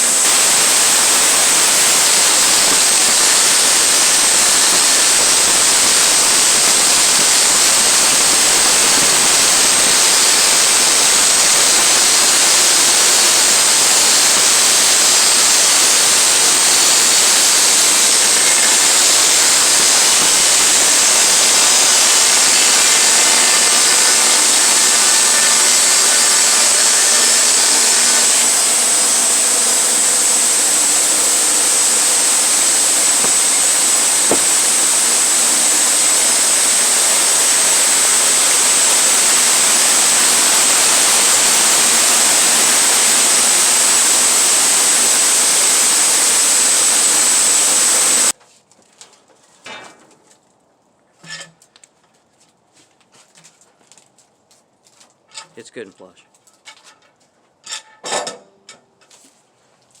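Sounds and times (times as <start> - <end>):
sawmill cutting log: 0.0 - 48.4.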